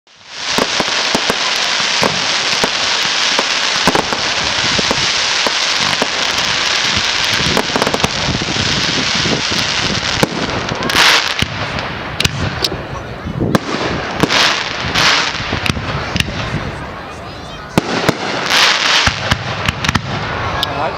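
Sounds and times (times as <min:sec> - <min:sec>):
fireworks crackling and popping: 0:00.1 - 0:20.9.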